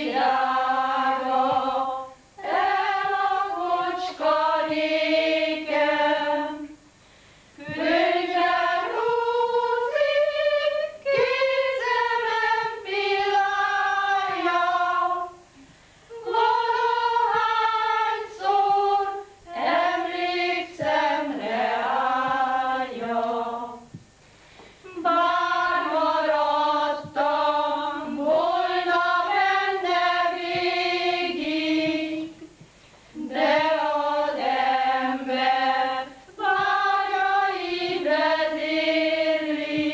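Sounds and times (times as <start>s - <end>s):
women singing unaccompanied: 0.0s - 6.9s, 7.6s - 24.1s, 24.8s - 39.9s.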